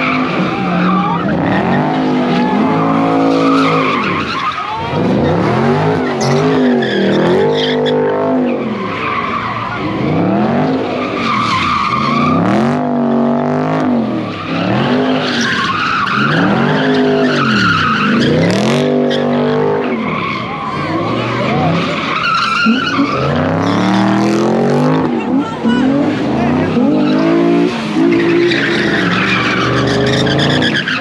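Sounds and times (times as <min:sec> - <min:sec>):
car engines revving: 0:00.0 - 0:31.0
tires screeching: 0:00.0 - 0:31.0.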